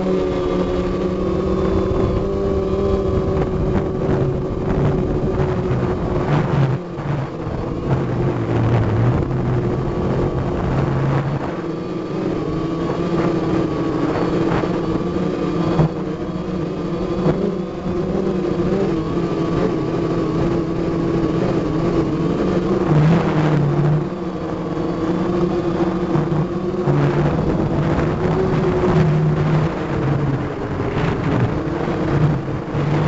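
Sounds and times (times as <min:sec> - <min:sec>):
drone propellers humming: 0:00.0 - 0:33.0.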